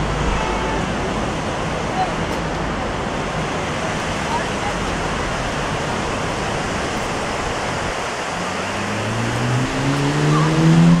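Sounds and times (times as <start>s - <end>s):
engine: 0.0s - 11.0s
ocean surf breaking on beach: 0.0s - 11.0s.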